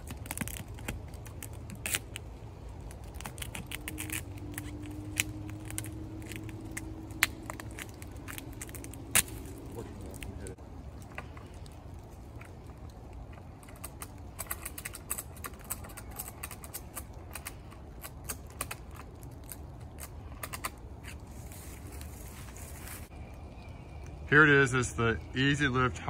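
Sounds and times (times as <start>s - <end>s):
low background rumble: 0.0s - 26.0s.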